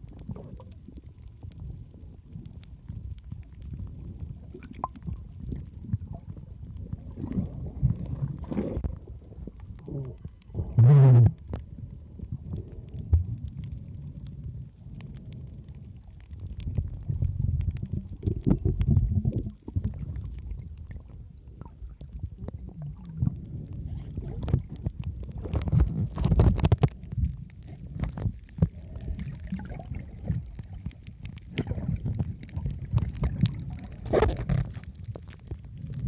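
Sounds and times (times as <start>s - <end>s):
wind rumbling on microphone: 0.0s - 36.0s.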